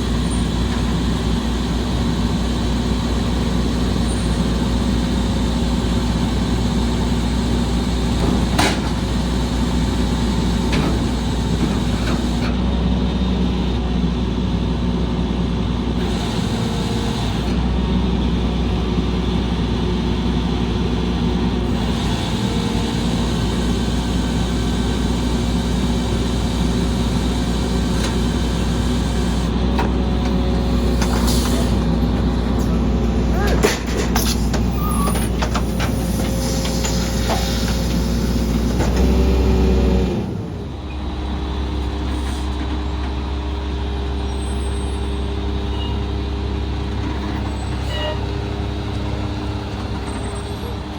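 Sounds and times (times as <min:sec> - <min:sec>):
trash truck diesel engine running: 0:00.0 - 0:50.9.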